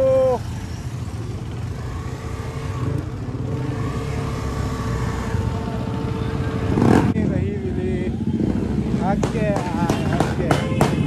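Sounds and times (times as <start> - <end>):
motorcycle engine running: 0.0 - 11.0
road and wind noise: 0.0 - 11.0.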